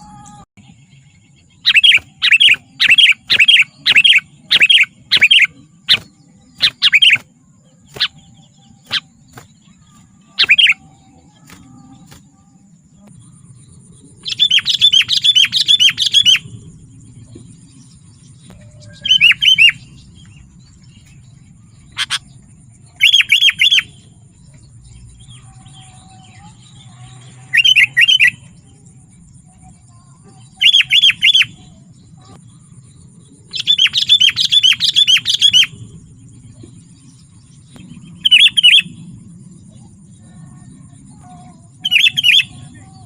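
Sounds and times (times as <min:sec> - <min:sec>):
bird chirping calls: 0:00.0 - 0:43.0.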